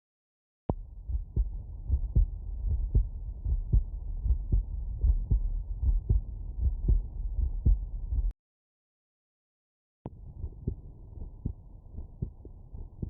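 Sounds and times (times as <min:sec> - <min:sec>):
heartbeat through stethoscope: 0:00.7 - 0:08.3, 0:10.1 - 0:13.0.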